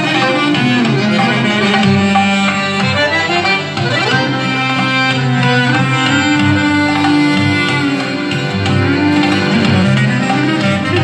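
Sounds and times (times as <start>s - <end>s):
accordion: 0.0s - 11.0s
clarinet melody: 0.0s - 11.0s
goblet drum: 0.0s - 11.0s
lute: 0.0s - 11.0s.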